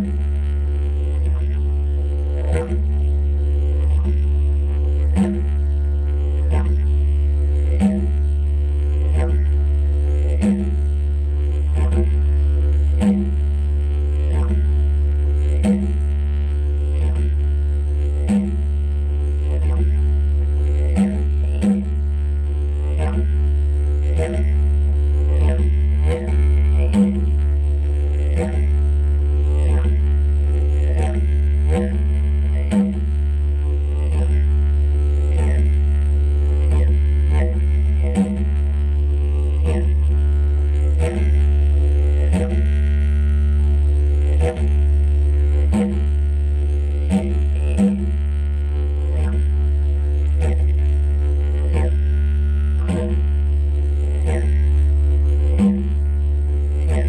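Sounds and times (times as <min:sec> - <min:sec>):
didgeridoo drone: 0:00.0 - 0:57.0.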